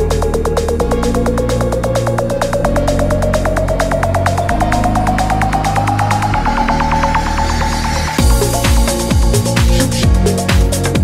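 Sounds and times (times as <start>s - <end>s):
rising synth tone: 0.0s - 10.5s
bass notes: 0.0s - 11.0s.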